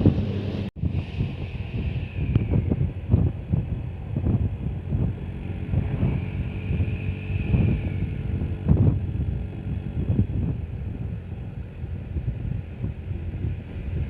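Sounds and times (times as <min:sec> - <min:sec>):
vehicle engine: 0:00.0 - 0:14.0
wind buffeting microphone: 0:00.0 - 0:14.0.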